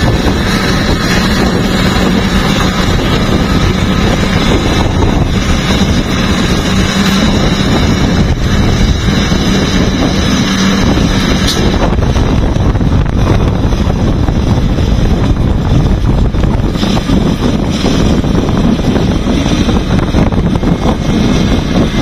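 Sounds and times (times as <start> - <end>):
diesel engine running: 0.0 - 22.0
wind rumble on microphone: 0.0 - 22.0.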